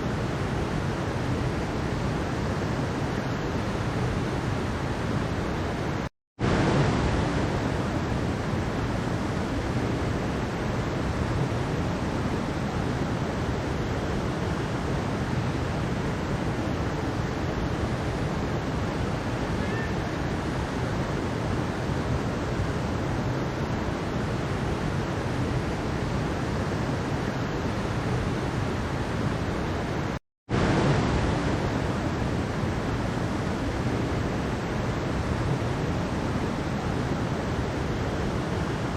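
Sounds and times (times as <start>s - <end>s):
mountain stream water rushing: 0.0s - 38.9s.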